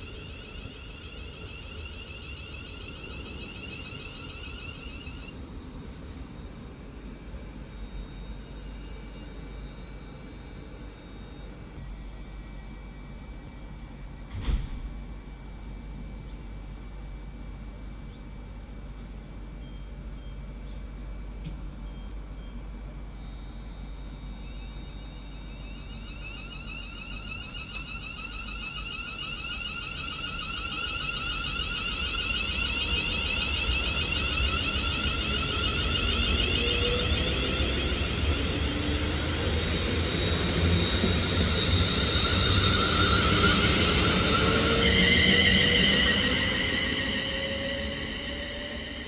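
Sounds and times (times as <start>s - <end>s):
electric train motor whine: 0.0s - 49.0s
train low rumble: 0.0s - 49.0s.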